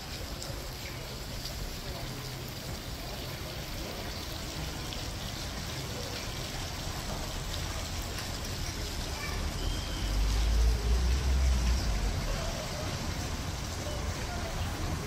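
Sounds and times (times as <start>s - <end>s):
faint indistinct voices: 0.0s - 15.0s
town noise hiss: 0.0s - 15.0s.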